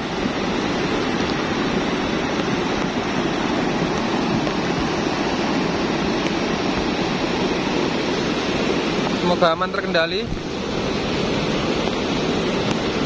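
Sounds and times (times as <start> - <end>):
rumble of churning muddy water: 0.0 - 13.0.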